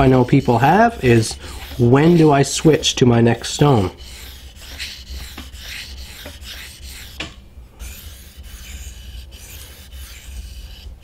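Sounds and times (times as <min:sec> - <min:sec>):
knife rasping on sharpening stone: 0:00.0 - 0:02.8, 0:03.9 - 0:11.0.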